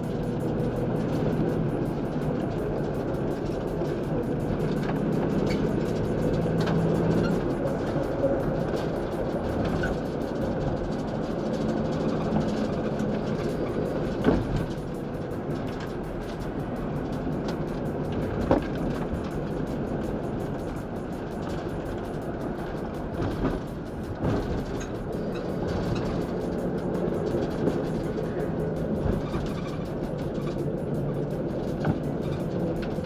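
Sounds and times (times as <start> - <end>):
van engine and road noise: 0.0 - 33.0.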